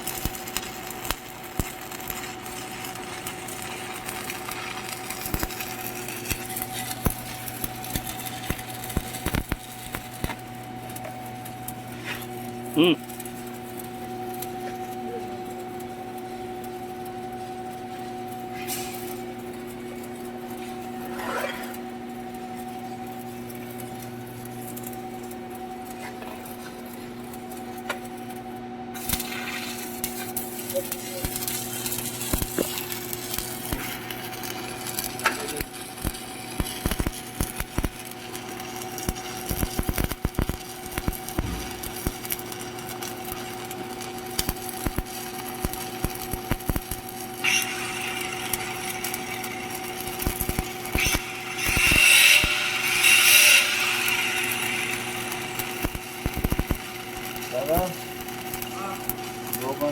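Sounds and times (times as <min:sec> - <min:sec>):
arc welding machine humming: 0:00.0 - 0:59.9
welding arc crackling and popping: 0:00.0 - 0:59.9.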